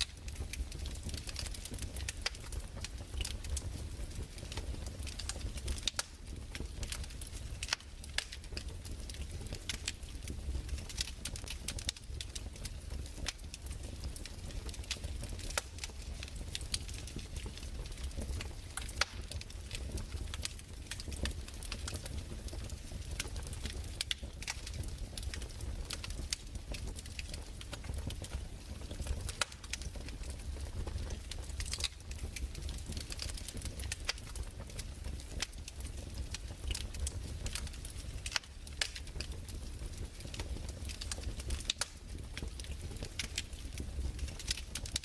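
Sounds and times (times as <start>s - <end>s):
low fire rumble: 0.0s - 45.0s
wood fire snaps and pops: 0.0s - 45.0s.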